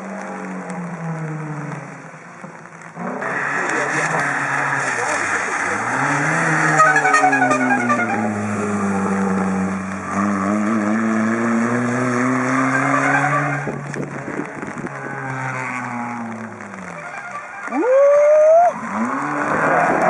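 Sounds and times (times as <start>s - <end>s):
tyres skidding: 0.0s - 20.0s.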